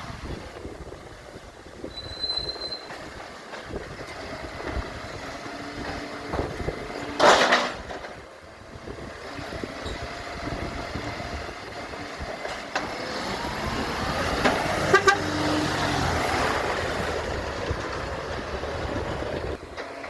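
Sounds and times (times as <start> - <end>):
garbage truck running: 0.0 - 20.0.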